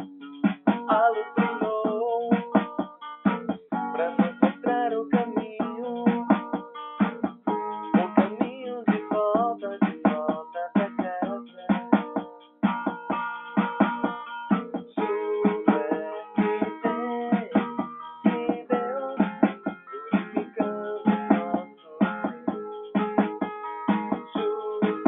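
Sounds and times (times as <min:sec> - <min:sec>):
plucked string instrument music: 0:00.0 - 0:25.0.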